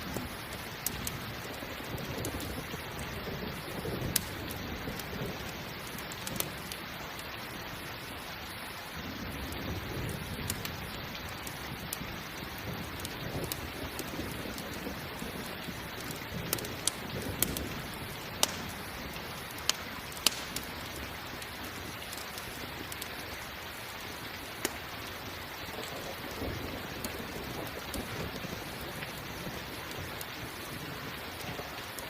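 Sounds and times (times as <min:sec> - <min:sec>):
campfire pops and crackles: 0:00.0 - 0:32.0
rain falling: 0:00.0 - 0:32.0.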